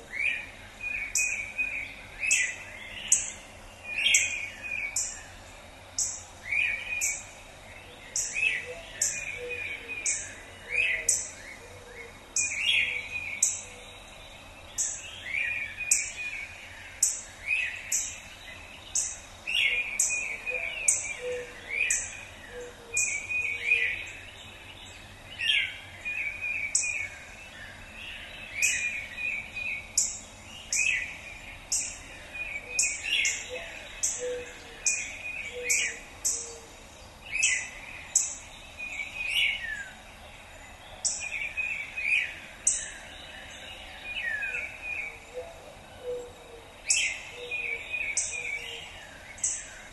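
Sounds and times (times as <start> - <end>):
bird warbling song: 0.0 - 49.9
faint background hiss: 0.0 - 49.9.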